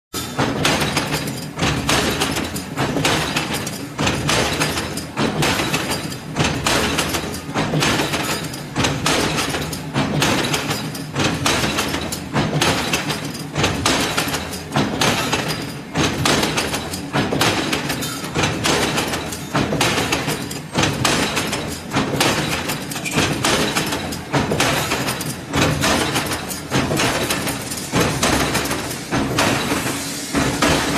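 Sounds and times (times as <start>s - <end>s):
wire mesh machine clattering: 0.2s - 30.9s.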